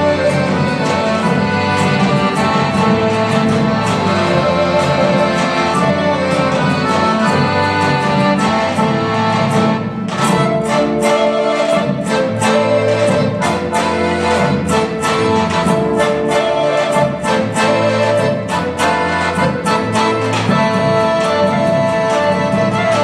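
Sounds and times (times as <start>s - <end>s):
instrumental folk dance music: 0.0s - 23.0s
sharp regular beats: 0.0s - 23.0s.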